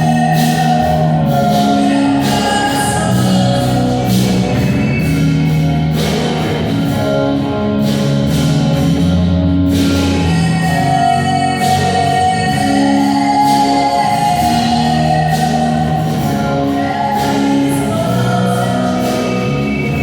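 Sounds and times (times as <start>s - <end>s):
held chords over bass: 0.0s - 20.0s.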